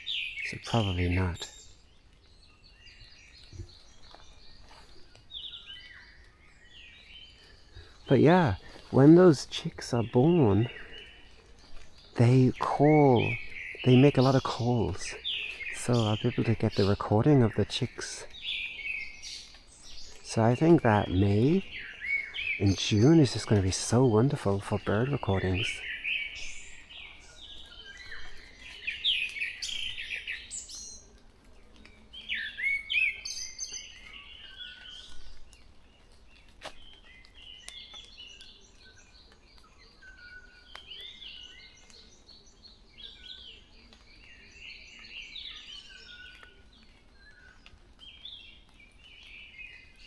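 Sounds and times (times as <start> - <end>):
birds singing and chirping: 0.0 - 50.0.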